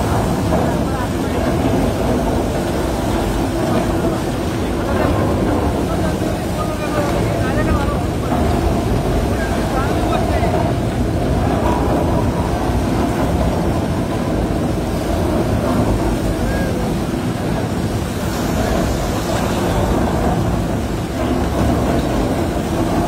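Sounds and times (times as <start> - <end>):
heavy machinery rumbling: 0.0 - 23.0.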